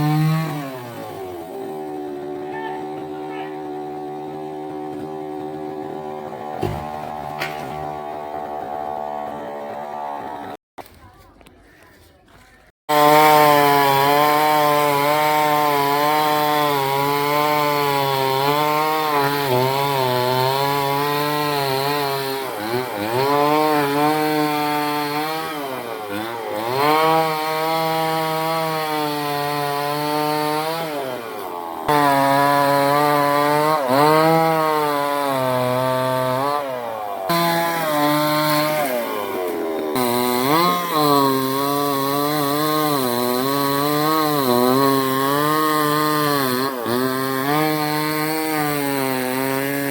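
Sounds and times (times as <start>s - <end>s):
chainsaw cutting wood: 0.0s - 10.6s, 12.9s - 49.9s.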